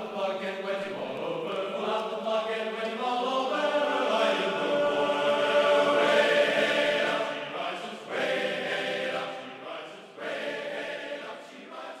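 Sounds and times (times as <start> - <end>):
choir singing sustained chords: 0.0 - 12.0.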